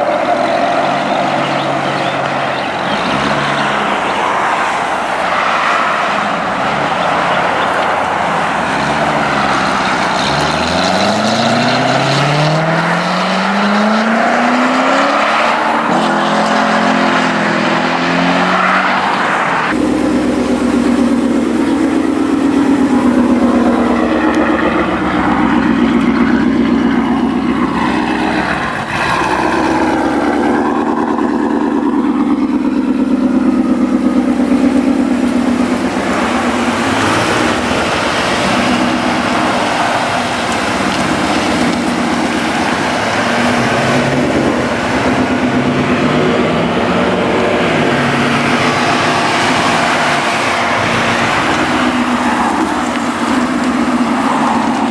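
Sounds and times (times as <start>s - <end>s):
car engine and exhaust droning: 0.0s - 54.9s.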